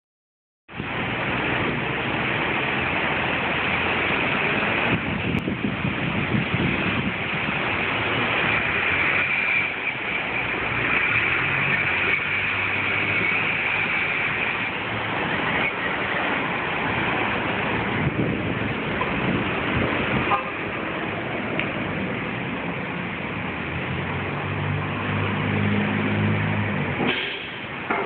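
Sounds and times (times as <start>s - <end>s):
city street traffic: 0.7s - 28.0s
vehicle engine humming: 0.7s - 28.0s.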